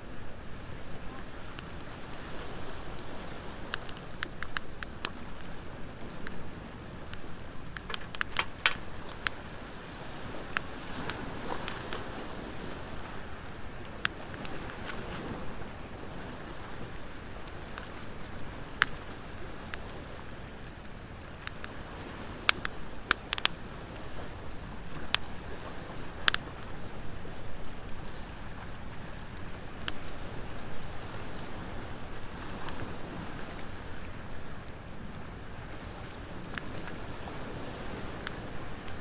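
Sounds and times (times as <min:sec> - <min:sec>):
ocean waves washing: 0:00.0 - 0:39.0
wood fire crackling: 0:00.0 - 0:39.0.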